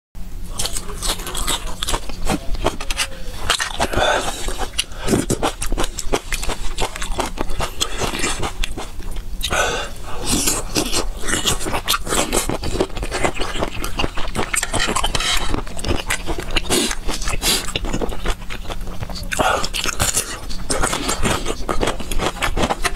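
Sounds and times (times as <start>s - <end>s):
wet chewing and lip smacking: 0.5s - 9.6s, 10.2s - 22.9s.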